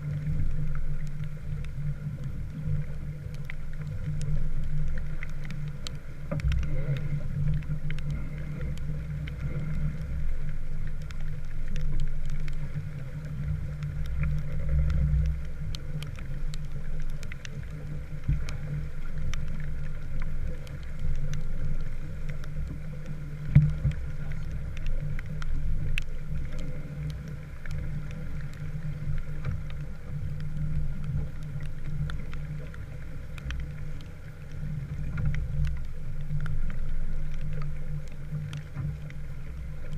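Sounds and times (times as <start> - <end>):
raindrops ticking: 0.0 - 39.9
water and wind rushing along hull: 0.0 - 39.9.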